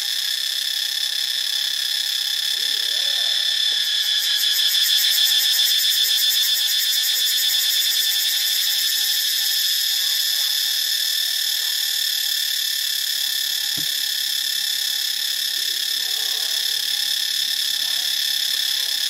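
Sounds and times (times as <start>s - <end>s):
cicada singing: 0.0s - 19.0s.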